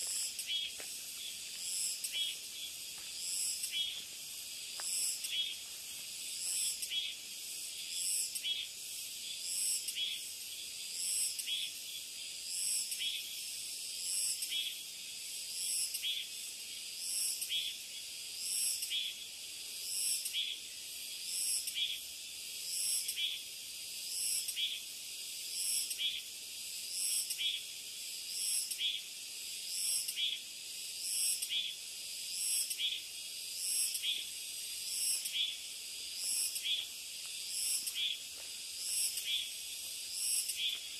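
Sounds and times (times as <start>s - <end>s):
insects shrilling: 0.0s - 40.9s.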